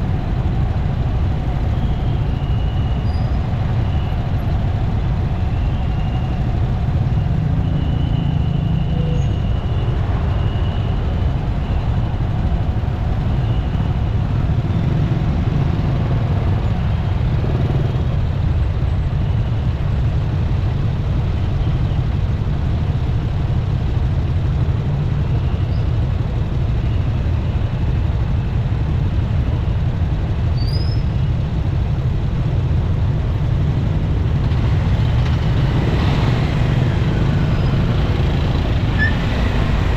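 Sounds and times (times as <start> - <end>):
motorcycle engine rumble: 0.0 - 39.9
passing traffic: 0.0 - 39.9.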